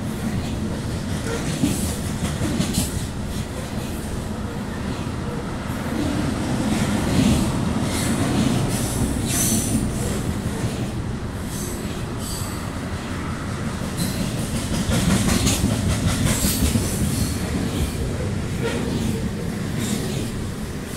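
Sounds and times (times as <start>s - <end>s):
train wheels rumbling on rail: 0.0s - 20.9s.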